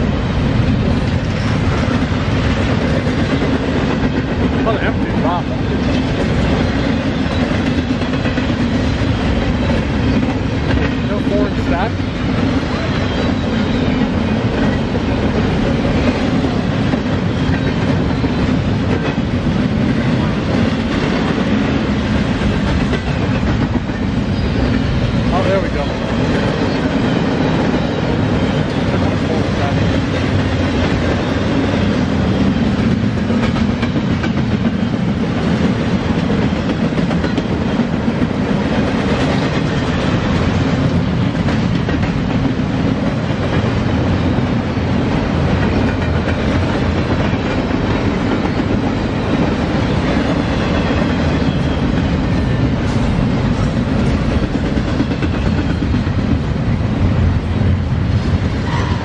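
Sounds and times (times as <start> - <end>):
freight train wheels rumbling: 0.0 - 59.0
train cars clattering: 0.0 - 59.0.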